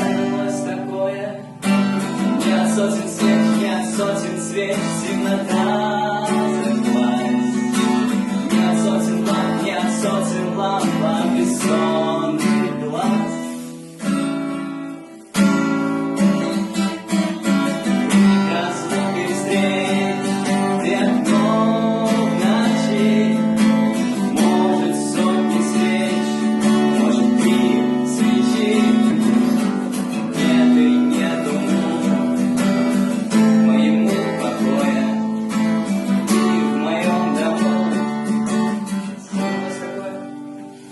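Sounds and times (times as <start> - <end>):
person singing: 0.0 - 14.3, 16.2 - 40.9
acoustic guitar strumming: 0.0 - 40.9.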